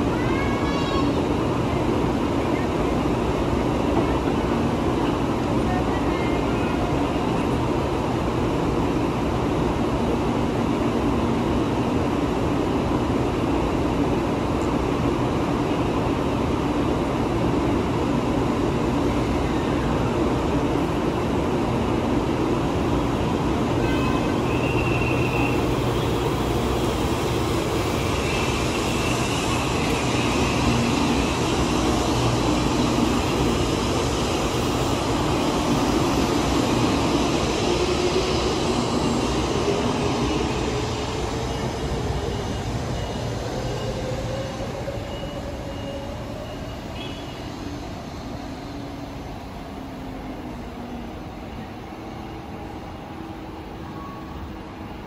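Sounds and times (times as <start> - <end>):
electric train running hum: 0.0 - 55.0
train rolling noise: 0.0 - 55.0.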